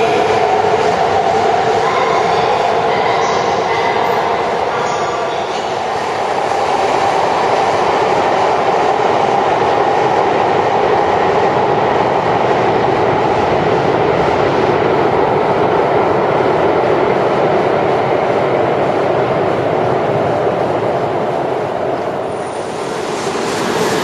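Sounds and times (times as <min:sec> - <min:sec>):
train running on rails: 0:00.0 - 0:24.0.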